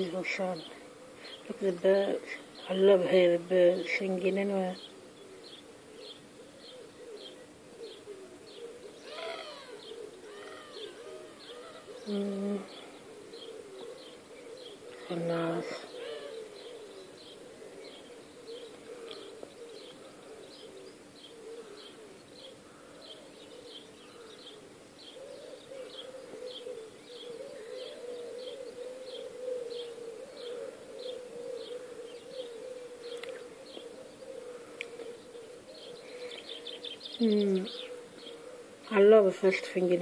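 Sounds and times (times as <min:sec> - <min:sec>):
garden birds singing: 0:00.0 - 0:40.0.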